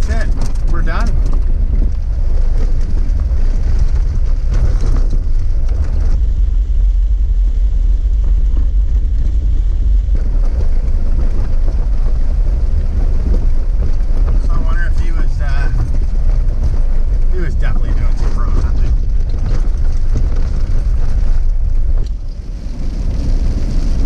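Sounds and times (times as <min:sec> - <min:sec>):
car driving on gravel road: 0:00.0 - 0:24.0.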